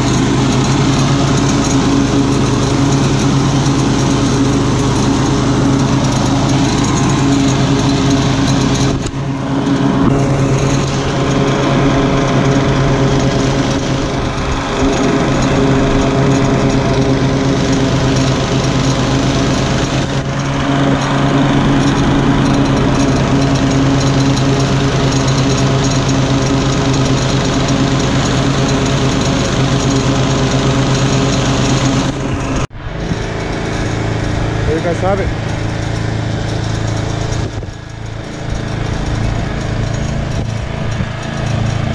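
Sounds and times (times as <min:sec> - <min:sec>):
lawn mower running: 0:00.0 - 0:41.9.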